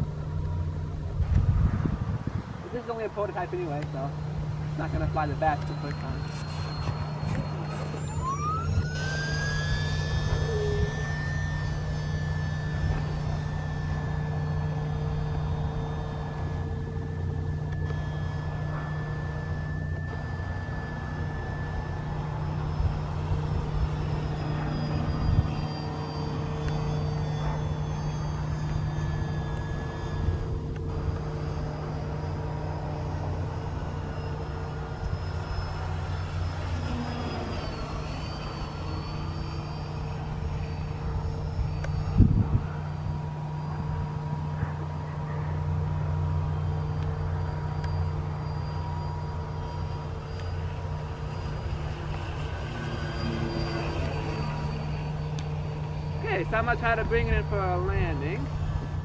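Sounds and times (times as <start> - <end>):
model plane motor whining: 0.0 - 59.0.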